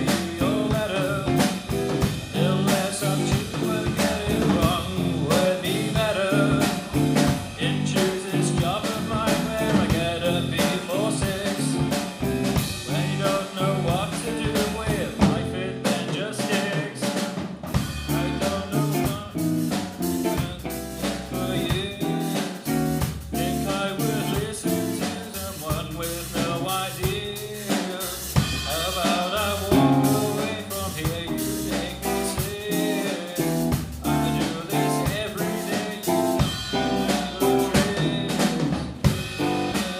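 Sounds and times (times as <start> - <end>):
person singing: 0.0 - 17.4, 18.0 - 39.9
rock band playing: 0.0 - 39.9.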